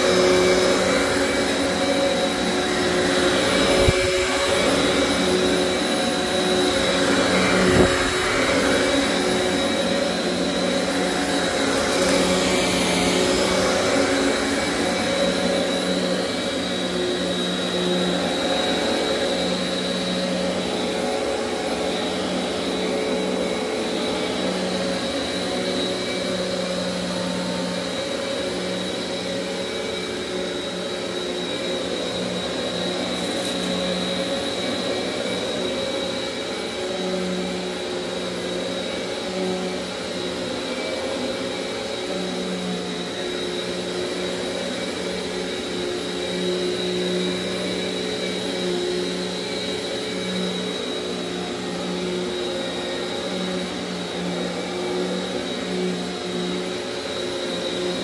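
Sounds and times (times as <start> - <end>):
upright vacuum cleaner on carpet: 0.0 - 58.0.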